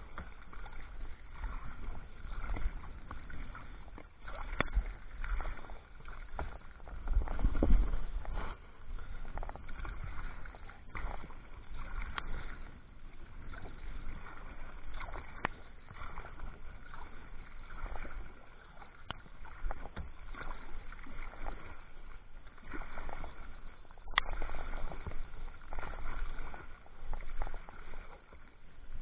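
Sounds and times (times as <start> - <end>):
kayak splashing through water: 0.0 - 29.0.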